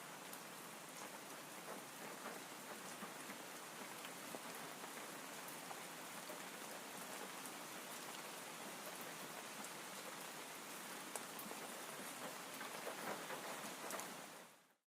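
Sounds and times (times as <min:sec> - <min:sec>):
steady rain: 0:00.0 - 0:14.8.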